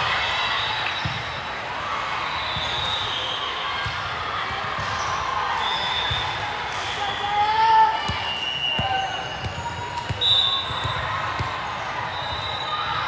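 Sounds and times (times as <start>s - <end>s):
murmur of voices in echoing hall: 0.0s - 13.0s.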